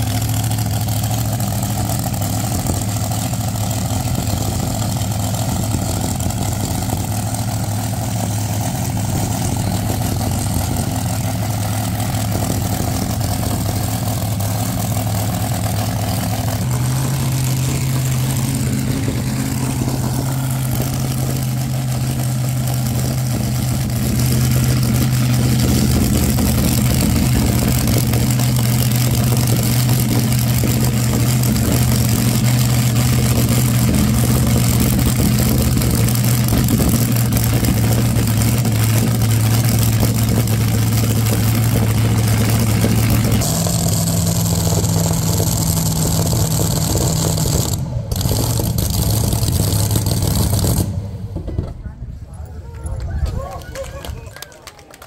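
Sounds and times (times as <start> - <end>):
car engine idling: 0.0 - 53.1.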